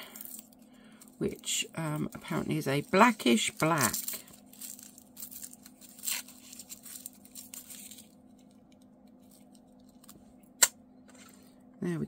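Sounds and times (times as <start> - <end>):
crinkly wrapping rustling: 0.0 - 10.1.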